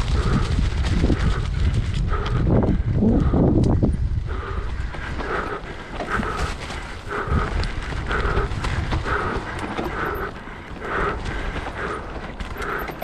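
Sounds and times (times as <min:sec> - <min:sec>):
bike tyres rumbling on dirt trail: 0:00.0 - 0:13.0
person panting hard: 0:00.0 - 0:13.0.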